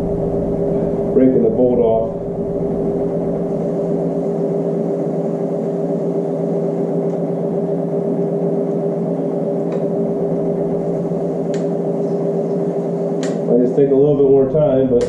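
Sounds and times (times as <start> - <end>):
steady pitched hum: 0.0 - 15.0.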